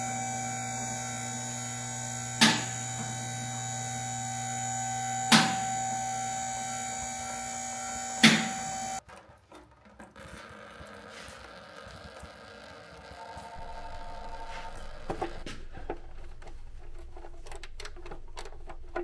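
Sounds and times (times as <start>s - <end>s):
electrical hum: 0.0s - 9.0s, 11.1s - 19.0s.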